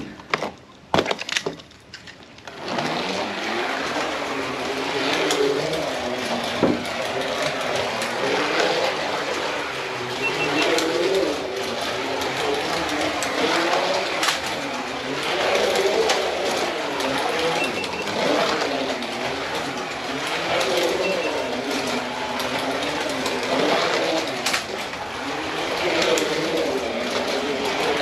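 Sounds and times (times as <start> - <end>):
slot car motors whining: 2.4 - 28.0.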